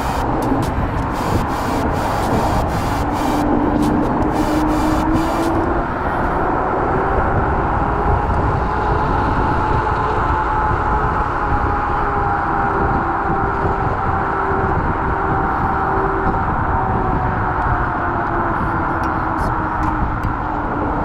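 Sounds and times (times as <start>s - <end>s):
electric scooter whine: 0.0s - 21.0s
road noise: 0.0s - 21.0s
wind noise on microphone: 0.0s - 21.0s.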